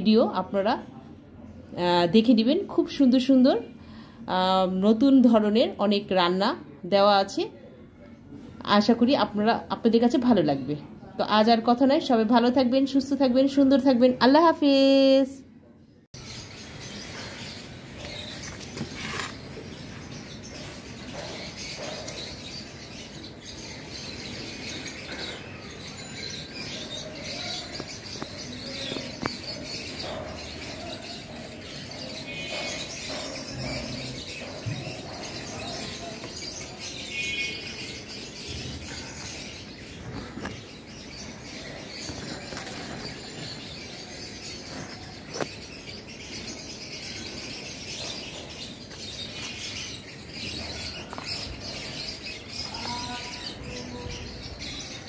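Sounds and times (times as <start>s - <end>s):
steady outdoor background noise: 0.0s - 55.0s.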